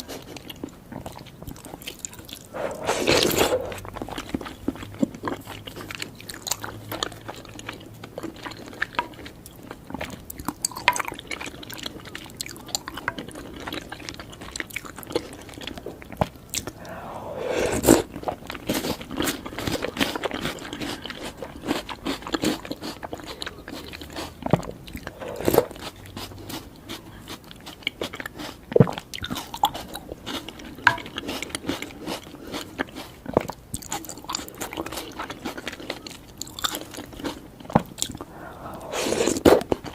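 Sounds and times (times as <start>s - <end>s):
crunching and chewing sweets: 0.0s - 39.9s.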